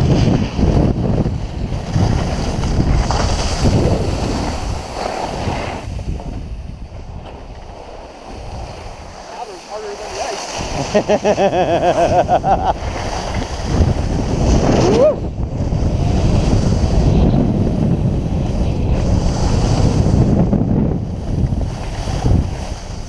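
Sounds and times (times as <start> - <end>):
skis scraping over snow: 0.0 - 20.4, 21.1 - 23.0
wind buffeting microphone: 0.0 - 23.0.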